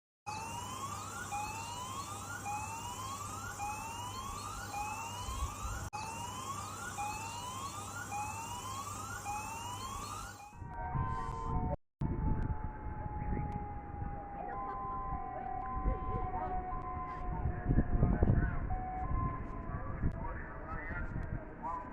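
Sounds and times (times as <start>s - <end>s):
warning siren rising whoop: 0.3s - 21.3s.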